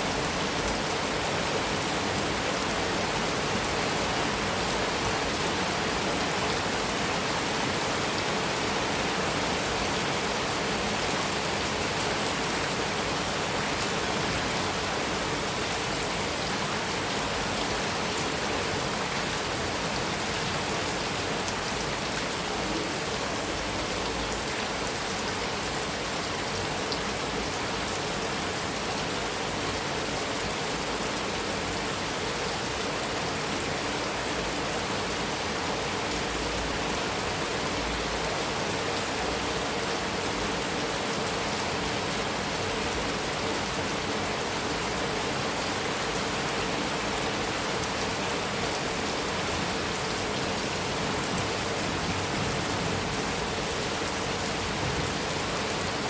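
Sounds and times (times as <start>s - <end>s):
heavy rain on a metal roof: 0.0s - 56.0s.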